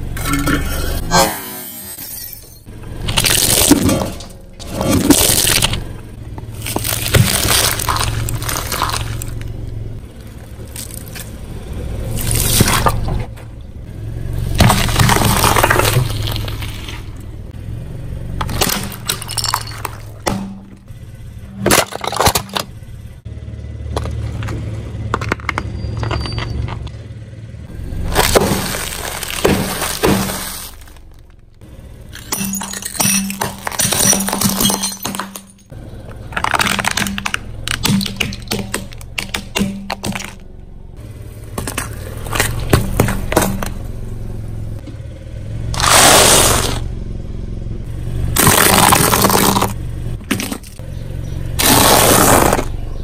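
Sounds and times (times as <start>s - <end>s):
crunching under car tyre: 2.9s - 22.9s, 23.7s - 44.9s, 45.7s - 47.0s, 47.9s - 53.0s.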